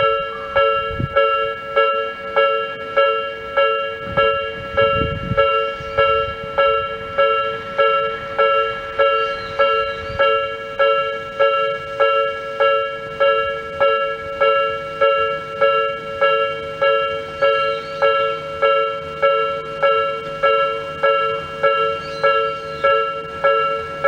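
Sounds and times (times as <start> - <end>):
level crossing warning bell: 0.0 - 24.0.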